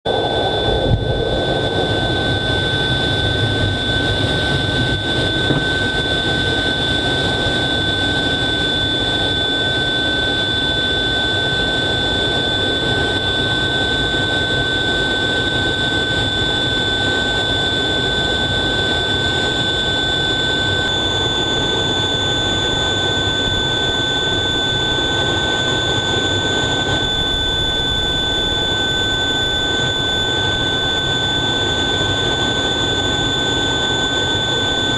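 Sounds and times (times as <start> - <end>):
high-pitched engine whine: 0.1 - 34.9
jet engine rush: 0.1 - 34.9.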